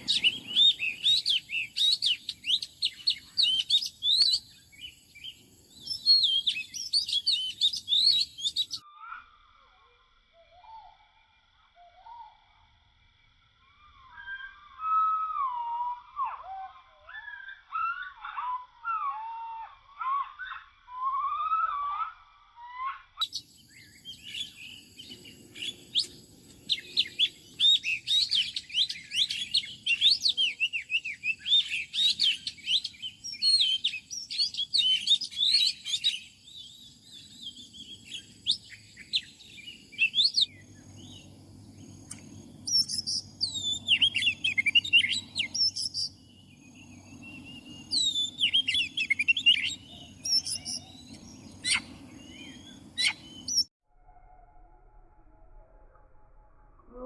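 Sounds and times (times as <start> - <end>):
songbird singing: 0.0 - 53.8.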